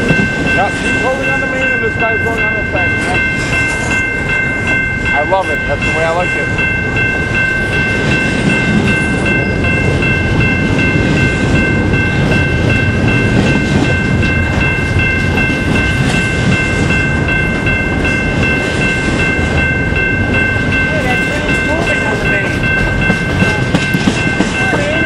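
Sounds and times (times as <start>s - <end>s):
high-pitched ringing tones: 0.0s - 25.0s
train wheels rumbling on rail: 0.0s - 25.0s.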